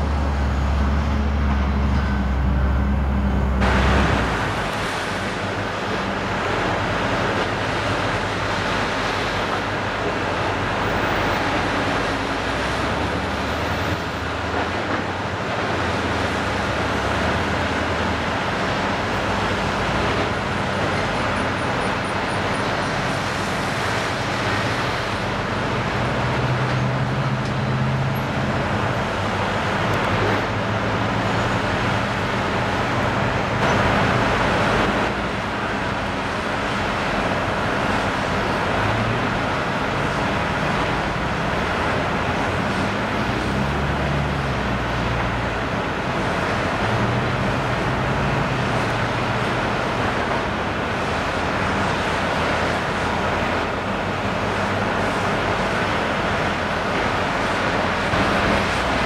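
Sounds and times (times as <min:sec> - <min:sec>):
excavator diesel engine under load: 0:00.0 - 0:59.0
wash of noise: 0:00.0 - 0:59.0.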